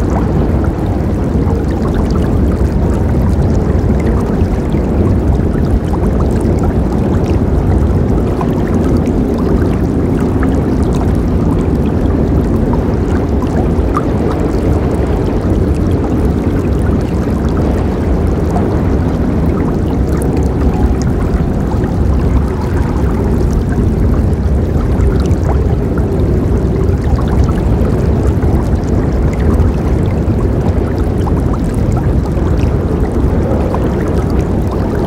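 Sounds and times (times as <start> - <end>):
river water rushing: 0.0 - 35.0
small water splashes: 0.0 - 35.0.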